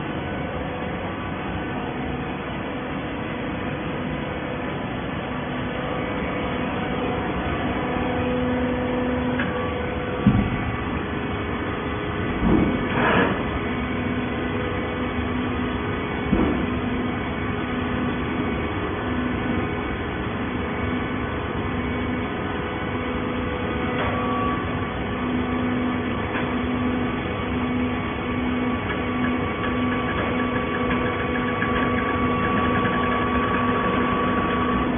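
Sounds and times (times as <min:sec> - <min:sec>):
hydraulic power unit humming: 0:00.0 - 0:34.9.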